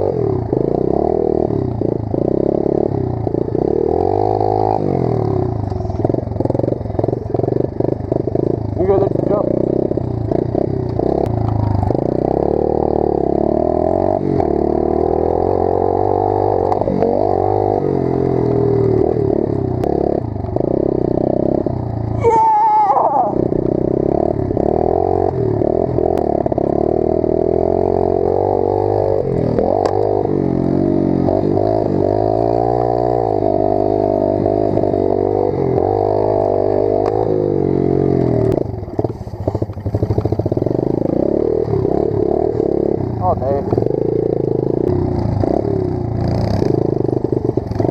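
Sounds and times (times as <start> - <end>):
pit bike engine revving: 0.0 - 47.9.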